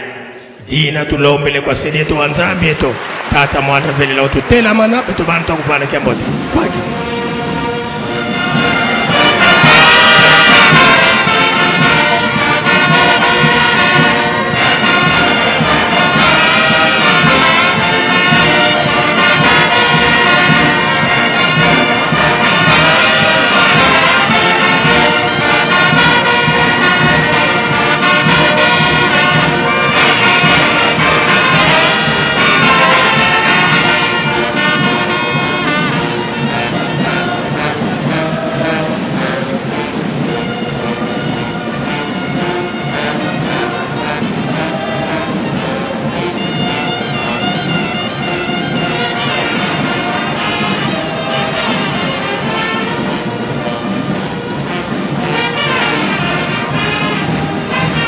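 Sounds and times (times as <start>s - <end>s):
brass band playing chords: 0.0s - 58.0s.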